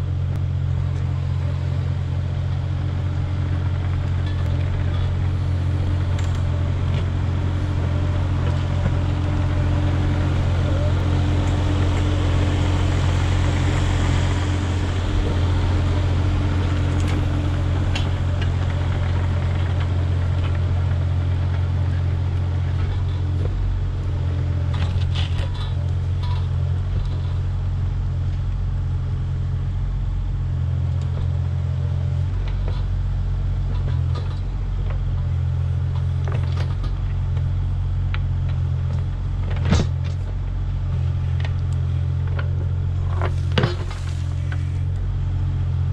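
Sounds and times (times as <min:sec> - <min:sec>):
diesel engine running: 0:00.0 - 0:45.9
excavator digging in loose dirt: 0:02.4 - 0:27.5, 0:32.1 - 0:37.5, 0:38.4 - 0:45.0.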